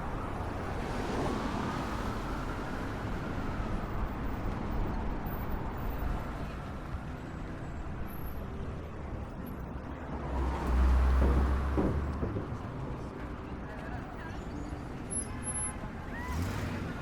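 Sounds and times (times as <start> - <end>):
passing vehicles: 0.0 - 17.0.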